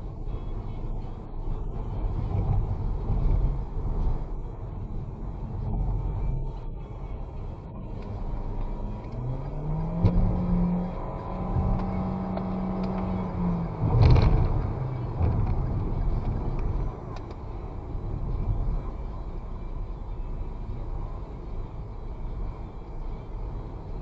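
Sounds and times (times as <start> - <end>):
vehicle engine and road noise: 0.0 - 24.0
wind: 0.0 - 24.0.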